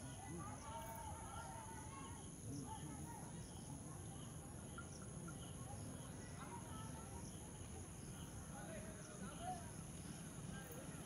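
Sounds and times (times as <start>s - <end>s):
insects trilling: 0.0s - 10.7s
faint distant voices: 0.0s - 11.0s.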